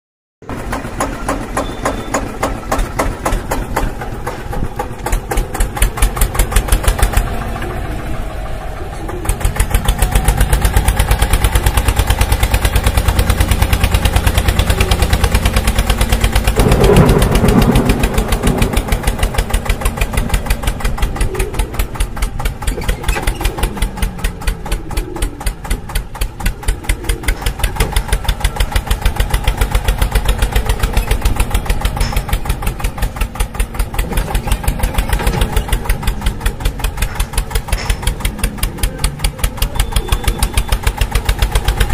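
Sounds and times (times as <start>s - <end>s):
tractor engine chugging: 0.4s - 41.9s.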